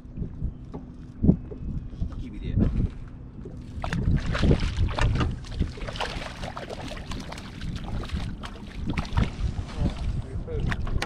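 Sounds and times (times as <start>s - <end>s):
water slapping against boat hull: 0.7s - 11.0s.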